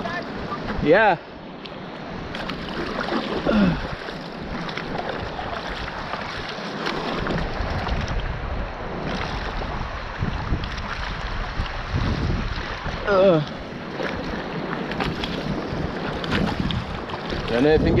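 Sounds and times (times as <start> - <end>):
wind buffeting microphone: 0.0 - 18.0
sea water sloshing and splashing: 1.5 - 18.0.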